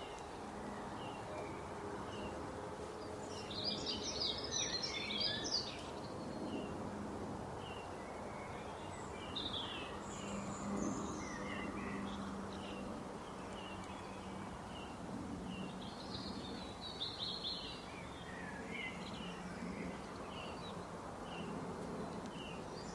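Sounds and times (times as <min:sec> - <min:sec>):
small birds chirping: 0:00.0 - 0:06.9, 0:07.5 - 0:22.9
steady background hiss: 0:00.0 - 0:22.9.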